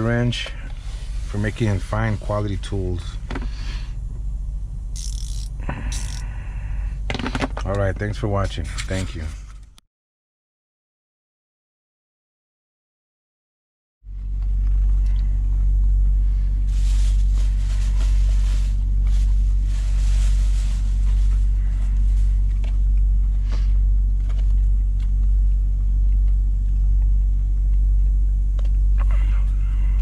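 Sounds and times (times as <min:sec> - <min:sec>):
vehicle engine rumbling: 0:00.0 - 0:09.8, 0:14.1 - 0:30.0.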